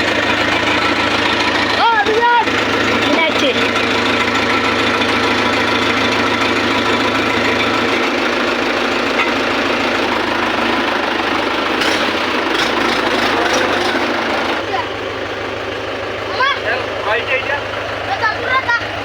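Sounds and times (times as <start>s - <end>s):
diesel tractor engine idling: 0.0s - 19.0s.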